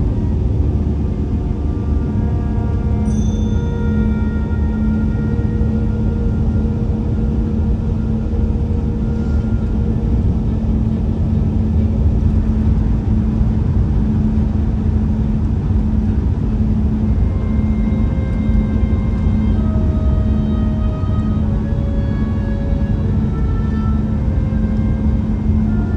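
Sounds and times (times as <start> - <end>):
road and tyre rumble: 0.0 - 25.9
steady low hum: 0.0 - 25.9.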